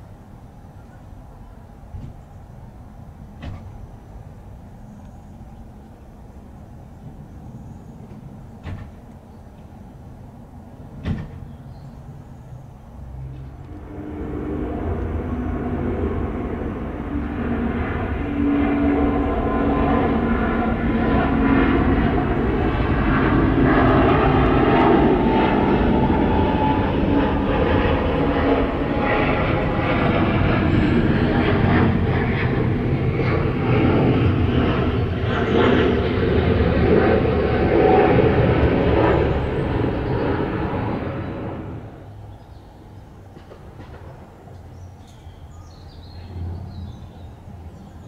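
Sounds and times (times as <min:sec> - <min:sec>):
jet engine rumble: 0:00.0 - 0:48.0.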